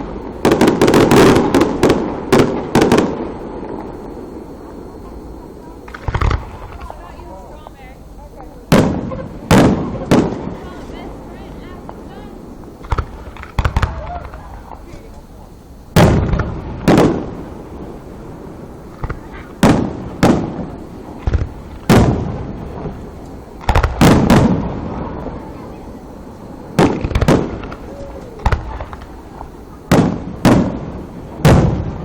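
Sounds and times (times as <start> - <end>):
fireworks booming: 0.0 - 32.0.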